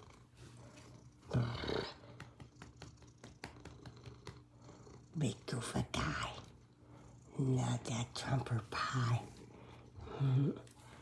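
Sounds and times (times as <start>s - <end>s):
cat purring: 0.0s - 10.6s.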